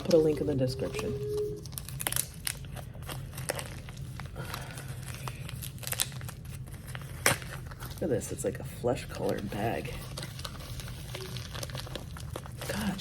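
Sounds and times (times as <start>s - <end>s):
packaging crinkling and rustling: 0.0s - 13.0s
steady low hum: 0.0s - 13.0s.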